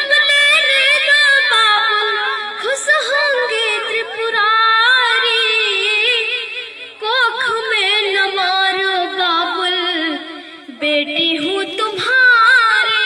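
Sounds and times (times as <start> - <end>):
girl singing into microphone: 0.0 - 13.0.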